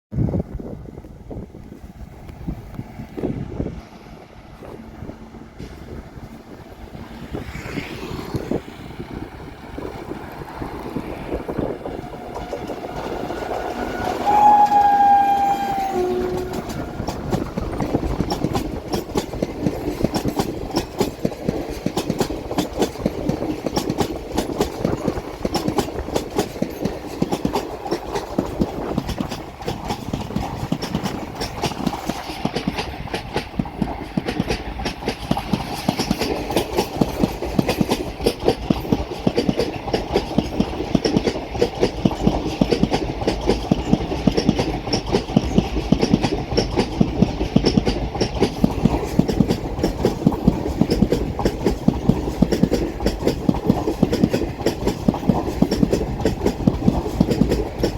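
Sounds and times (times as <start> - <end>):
train rumble: 0.1 - 57.9
wheels clattering over rail joints: 7.4 - 57.9.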